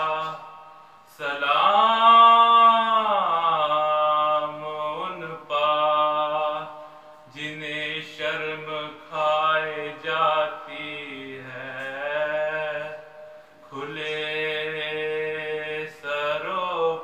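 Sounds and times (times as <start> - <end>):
man chanting unaccompanied: 0.0 - 17.0.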